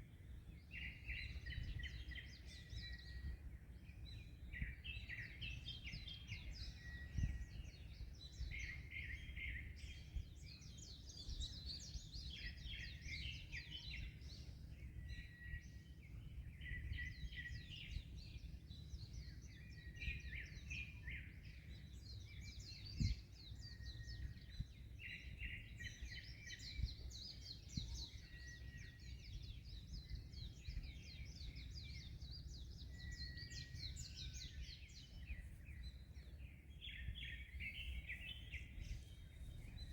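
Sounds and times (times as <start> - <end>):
small birds chirping: 0.0 - 39.9
wind: 0.0 - 39.9.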